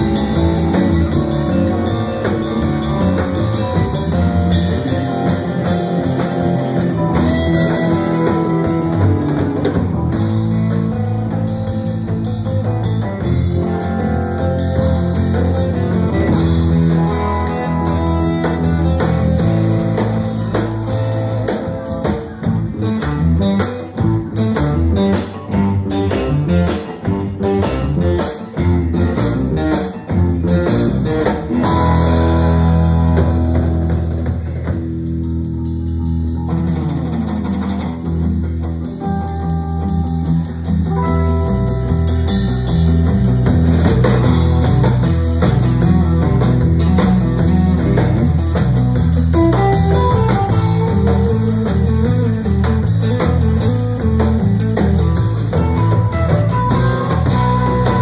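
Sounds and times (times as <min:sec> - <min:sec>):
live surf rock band: 0:00.0 - 0:58.0.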